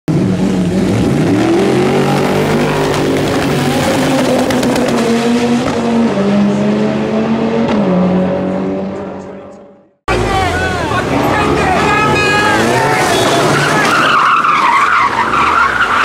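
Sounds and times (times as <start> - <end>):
car engine running hard: 0.1 - 14.0
tyre and road noise: 0.1 - 16.0.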